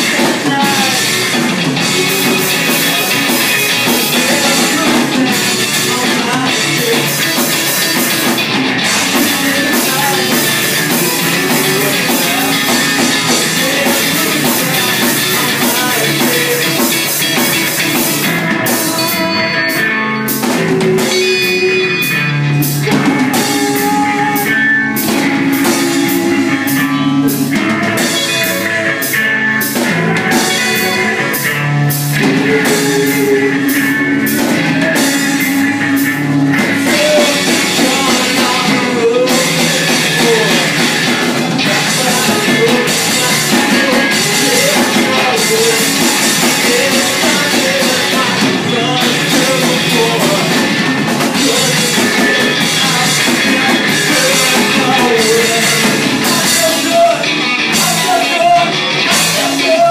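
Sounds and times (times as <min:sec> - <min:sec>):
man singing into microphone: 0:00.0 - 0:08.1, 0:08.8 - 0:59.9
live rock band playing: 0:00.0 - 0:59.9.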